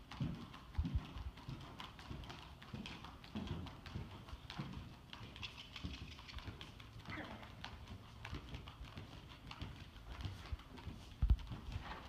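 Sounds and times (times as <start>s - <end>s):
horse hoofbeats on sand: 0.0s - 12.0s.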